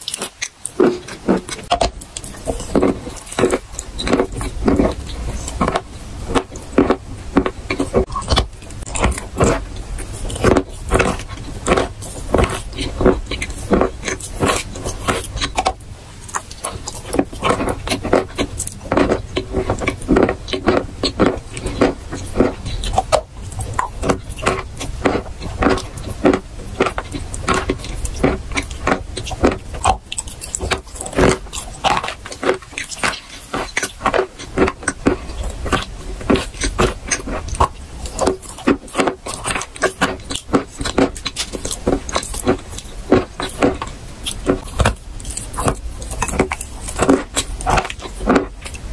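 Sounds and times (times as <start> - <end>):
chewing chalk crunching: 0.0 - 48.9.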